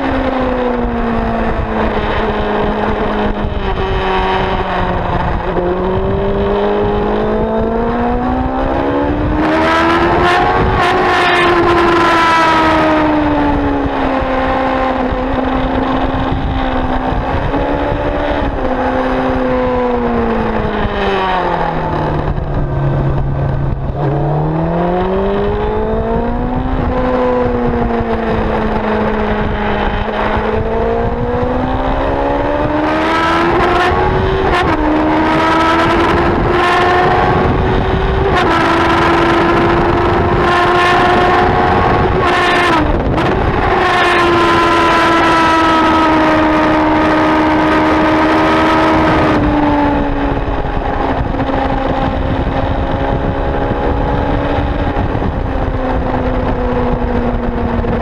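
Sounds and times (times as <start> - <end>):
motorcycle engine at speed: 0.0 - 58.0
wind noise: 0.0 - 58.0.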